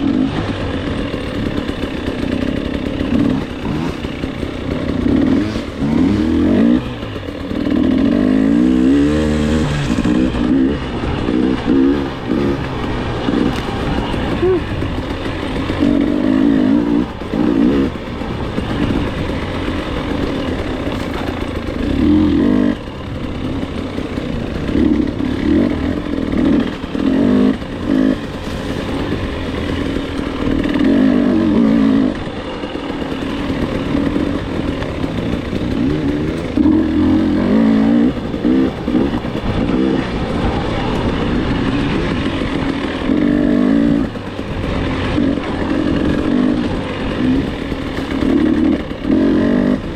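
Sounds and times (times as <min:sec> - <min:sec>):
dirt bike engine revving: 0:00.0 - 0:49.9
steady rushing noise: 0:00.0 - 0:49.9.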